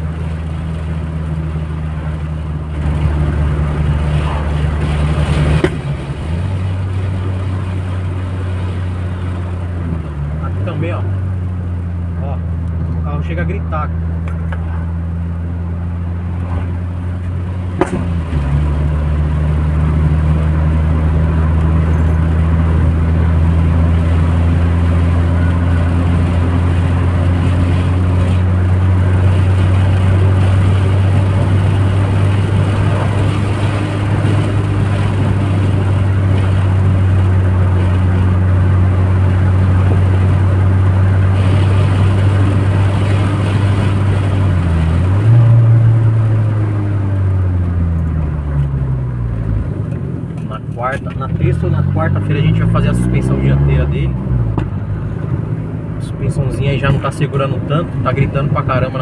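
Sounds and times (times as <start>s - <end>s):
car engine hum: 0.0s - 59.0s
road noise: 0.0s - 59.0s.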